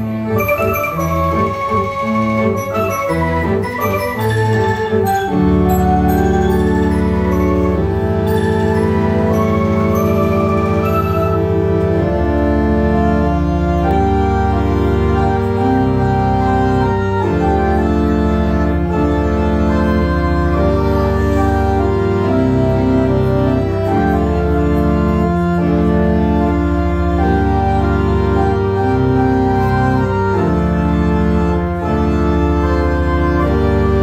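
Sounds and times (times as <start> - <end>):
pipe organ chords: 0.0 - 34.0.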